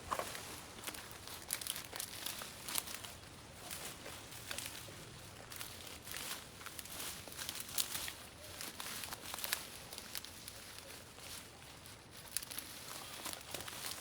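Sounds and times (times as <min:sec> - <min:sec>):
dry leaves rustling and crackling: 0:00.0 - 0:14.0.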